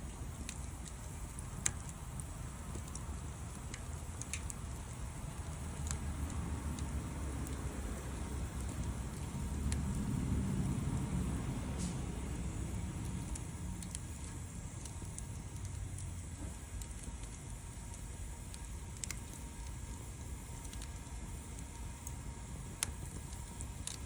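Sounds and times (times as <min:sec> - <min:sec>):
fire popping: 0:00.0 - 0:24.0
low steady rumble: 0:00.0 - 0:24.0
wood fire crackling: 0:00.0 - 0:24.0.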